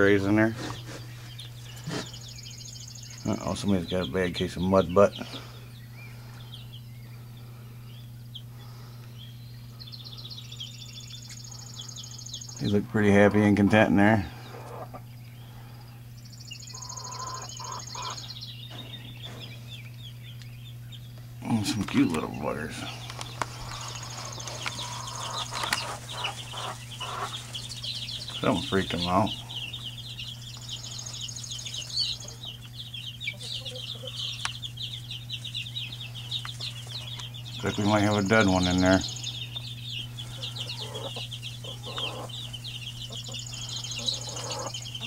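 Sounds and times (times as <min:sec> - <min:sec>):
chicks peeping: 0:00.0 - 0:45.0
low hum: 0:00.0 - 0:45.0.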